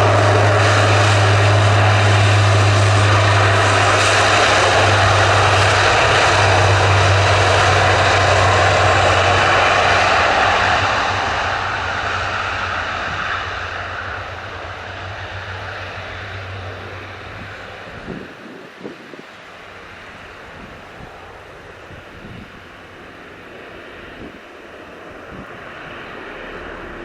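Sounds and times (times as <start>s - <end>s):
aircraft engines running: 0.0s - 27.0s.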